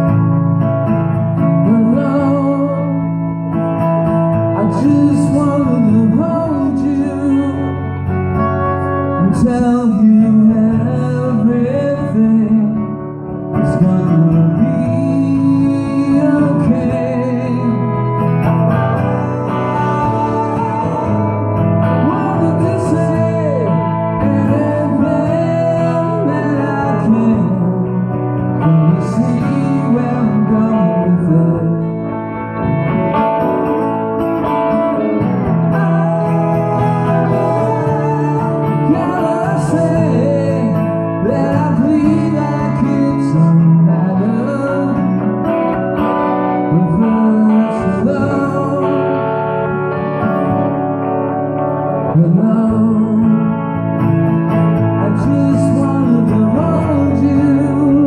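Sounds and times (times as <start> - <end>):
electric lead guitar: 0.0 - 58.0
strummed acoustic guitar: 0.0 - 58.0
man singing: 1.4 - 3.4, 4.3 - 32.4, 33.2 - 49.8, 52.0 - 58.0.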